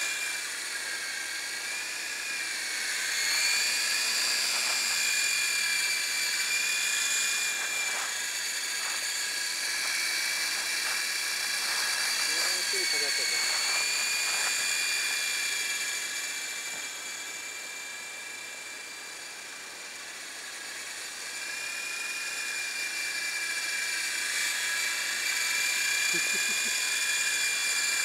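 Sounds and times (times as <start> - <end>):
model helicopter whine: 0.0 - 28.0.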